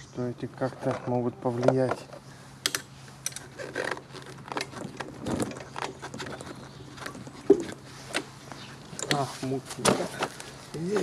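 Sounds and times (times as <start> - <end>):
handling noise: 0.6 - 11.0.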